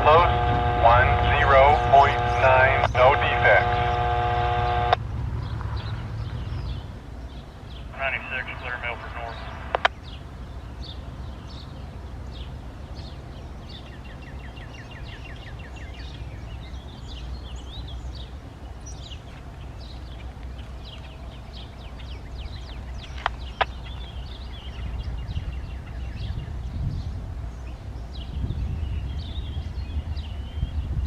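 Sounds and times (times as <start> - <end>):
songbirds chirping and trilling: 0.0 - 31.0
steady low rumble: 0.0 - 31.0.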